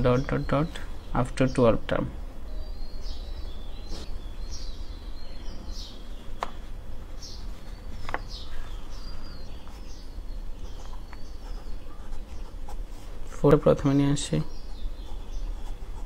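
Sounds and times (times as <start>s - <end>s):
small bird chirping: 0.0s - 16.0s
steady low hum: 0.0s - 16.0s.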